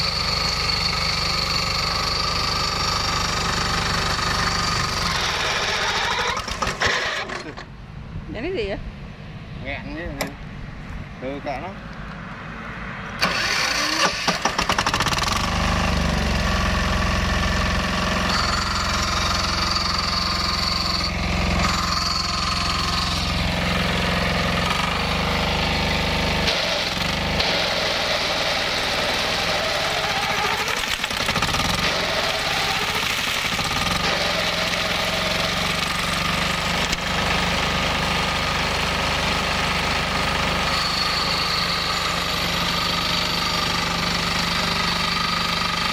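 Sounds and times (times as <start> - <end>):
diesel engine starting and running: 0.0 - 8.6, 9.2 - 45.9.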